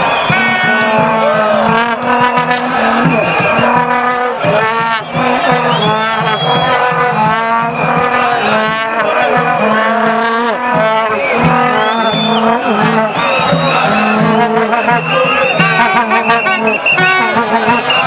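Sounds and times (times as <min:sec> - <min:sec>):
crowd singing and shouting: 0:00.0 - 0:18.0
vuvuzelas blaring: 0:00.0 - 0:18.0.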